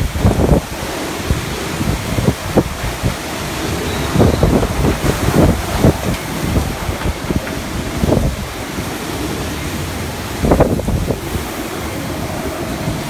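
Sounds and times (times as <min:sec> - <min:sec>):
violent wind gusting: 0:00.0 - 0:13.0.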